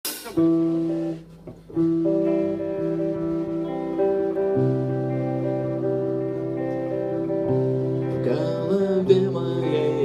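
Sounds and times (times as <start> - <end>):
punk guitar chords strummed: 0.1 - 10.0.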